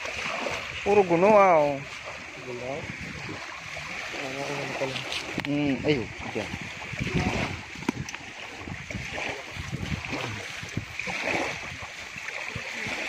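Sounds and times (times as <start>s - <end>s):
shallow surf sloshing: 0.0s - 13.0s.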